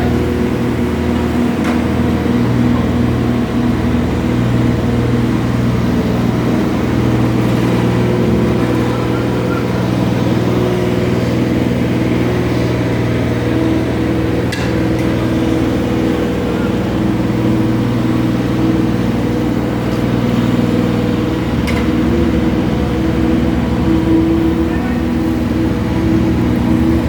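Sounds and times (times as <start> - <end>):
machine engine humming: 0.0 - 27.0.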